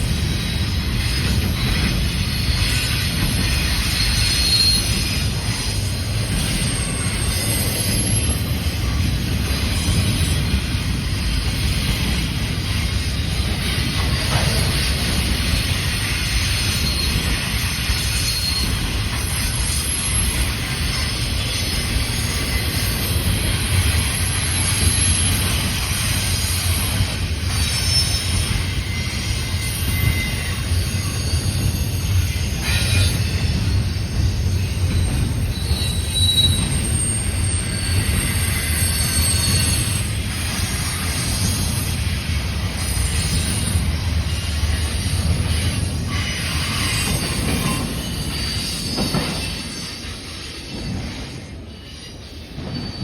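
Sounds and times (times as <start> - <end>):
freight train rumbling on rails: 0.0 - 53.0
faint high wheel squeal: 0.3 - 10.4, 12.8 - 53.0.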